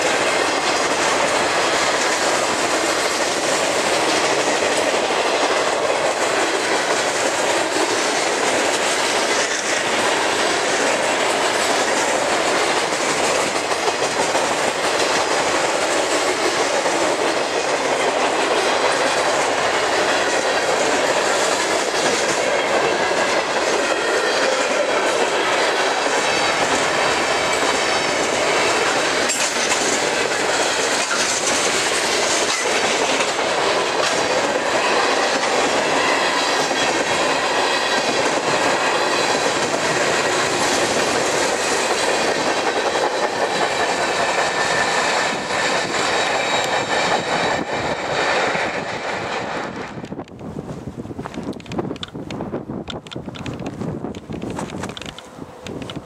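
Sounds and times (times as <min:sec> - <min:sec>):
train wheels rolling on rails: 0:00.0 - 0:56.0
wheels clacking over rail joints: 0:00.0 - 0:56.0.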